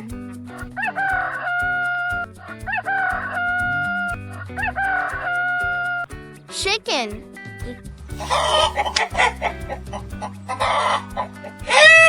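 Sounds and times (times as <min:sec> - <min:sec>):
children's music with steady beat: 0:00.0 - 0:12.0.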